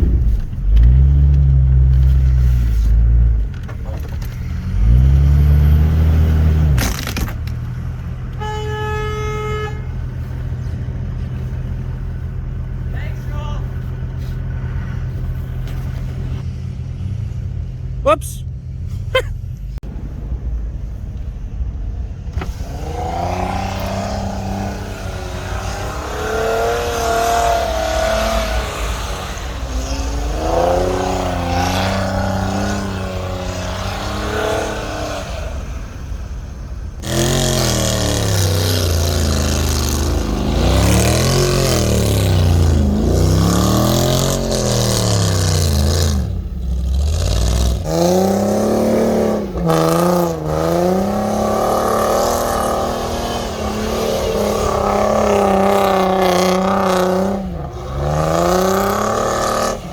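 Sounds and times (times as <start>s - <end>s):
off-road engines revving: 0.0s - 19.6s, 22.3s - 59.9s.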